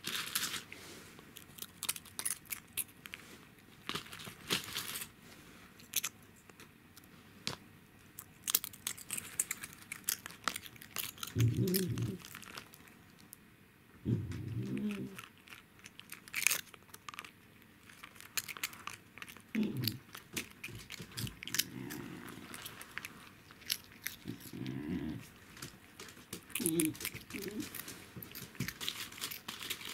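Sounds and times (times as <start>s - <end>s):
cat crunching and chewing: 0.0s - 13.4s, 14.0s - 29.9s.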